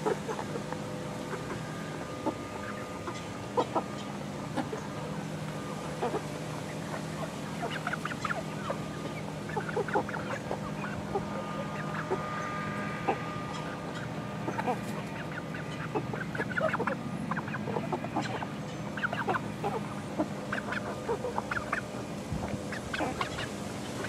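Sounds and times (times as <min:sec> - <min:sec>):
chickens clucking: 0:00.0 - 0:24.0
low hum: 0:00.0 - 0:24.0.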